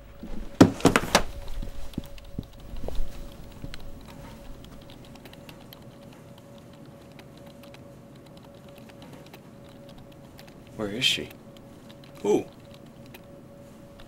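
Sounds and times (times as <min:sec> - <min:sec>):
faint steady hum: 0:00.0 - 0:14.0
keyboard typing clicks: 0:01.5 - 0:13.3.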